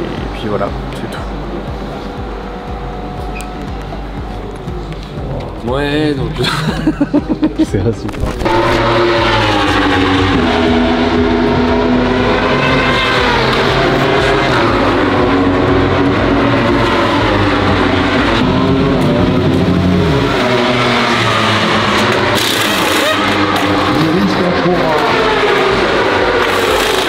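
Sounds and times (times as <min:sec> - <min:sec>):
racing motorcycle engines: 0:00.0 - 0:27.0.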